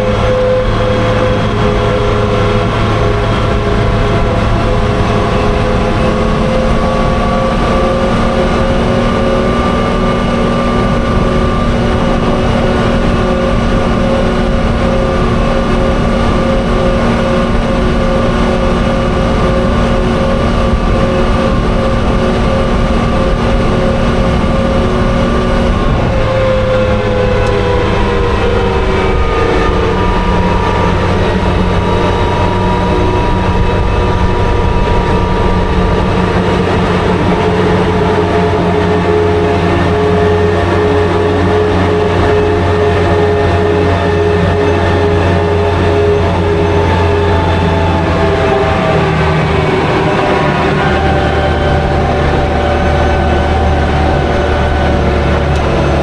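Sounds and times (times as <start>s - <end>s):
armoured car engine driving: 0.0s - 56.0s.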